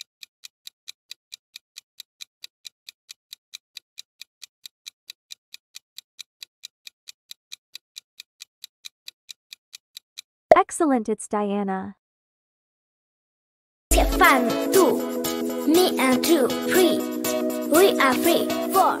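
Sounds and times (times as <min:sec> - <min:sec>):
fast clock ticking: 0:00.0 - 0:10.3, 0:13.9 - 0:19.0.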